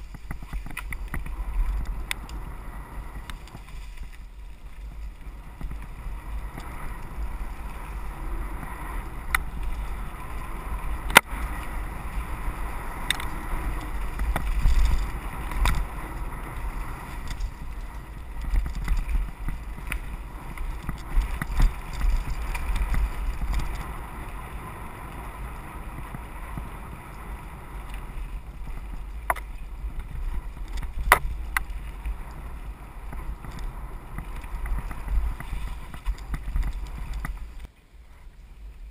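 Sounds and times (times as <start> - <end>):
bike rattling over bumps: 0.0 - 38.9
low rumble of bike ride: 0.0 - 38.9
wind on microphone: 0.0 - 38.9.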